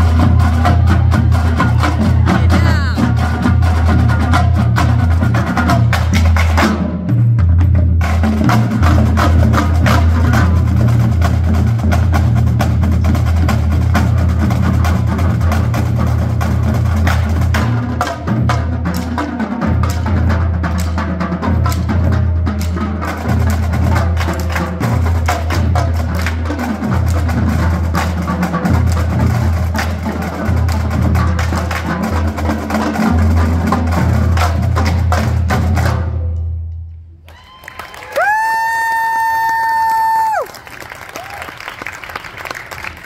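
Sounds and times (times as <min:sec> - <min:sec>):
drumline playing fast cadence: 0:00.0 - 0:43.0.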